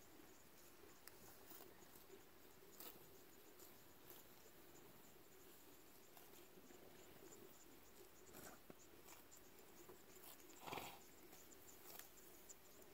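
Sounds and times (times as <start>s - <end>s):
soft rustle: 0.0s - 12.9s.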